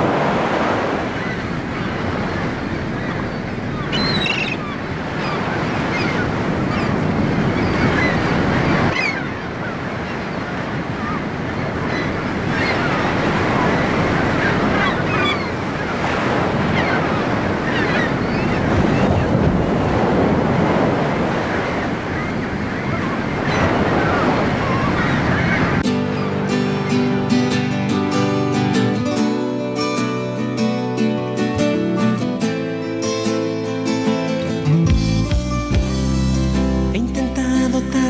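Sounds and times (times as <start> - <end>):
ocean waves breaking: 0.0 - 38.0.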